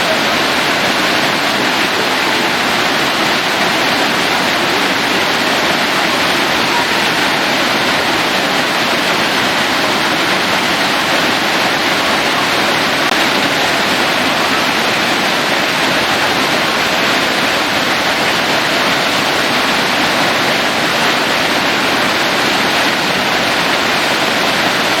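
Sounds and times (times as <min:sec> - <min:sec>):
waterfall rushing onto rocks: 0:00.0 - 0:25.0.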